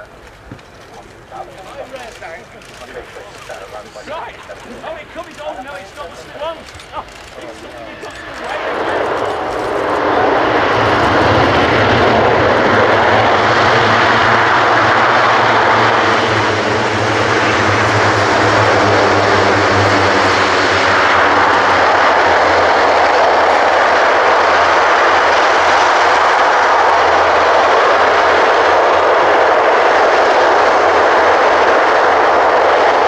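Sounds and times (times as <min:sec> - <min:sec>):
turboprop engines in reverse: 0:02.1 - 0:33.0.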